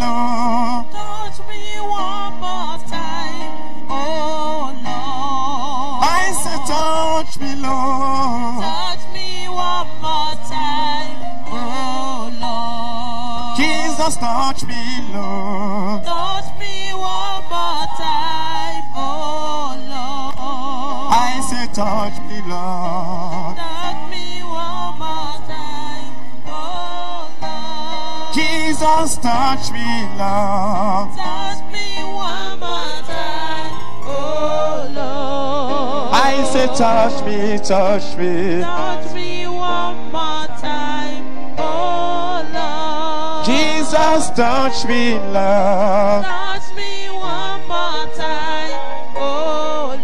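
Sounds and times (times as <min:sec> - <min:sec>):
sustained keyboard chords: 0:00.0 - 0:50.0
voices singing with vibrato: 0:00.0 - 0:50.0.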